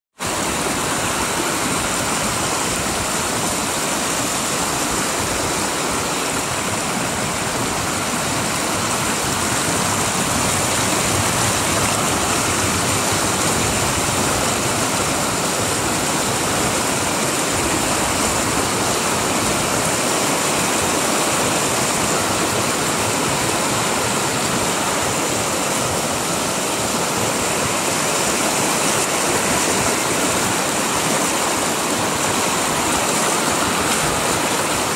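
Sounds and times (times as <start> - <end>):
water rushing over rocks: 0.2 - 34.9.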